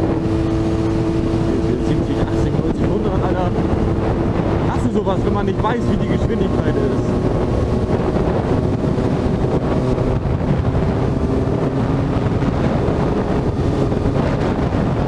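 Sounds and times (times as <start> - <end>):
motorcycle engine cruising: 0.0 - 15.0
wind rushing over microphone: 0.0 - 15.0.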